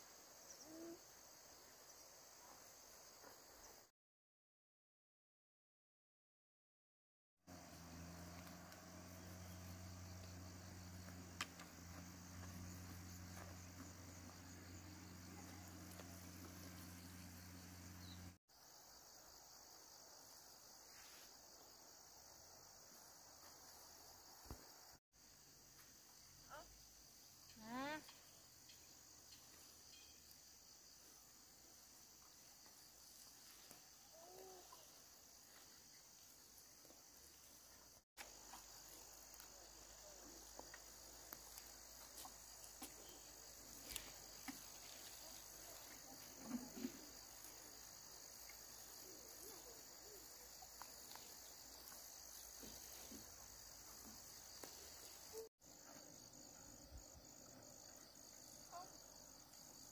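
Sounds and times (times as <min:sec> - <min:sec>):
insects chirring: 0:07.5 - 0:59.9.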